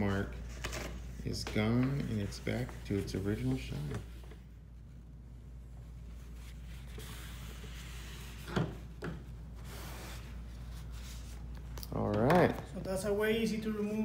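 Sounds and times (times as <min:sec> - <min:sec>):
low room hum: 0:00.0 - 0:14.0
cloth rubbing: 0:00.1 - 0:11.8.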